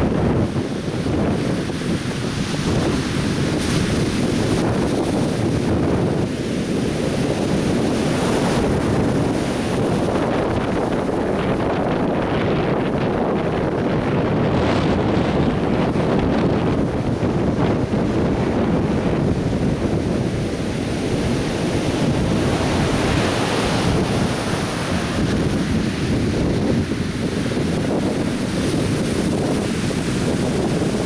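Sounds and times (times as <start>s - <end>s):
surf waves breaking on beach: 0.0s - 31.0s
wind buffeting microphone: 0.0s - 31.0s.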